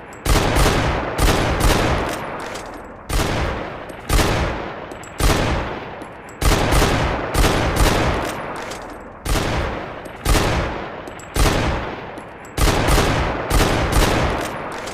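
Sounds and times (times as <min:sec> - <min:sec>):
pistol shots echoing: 0:00.0 - 0:14.9.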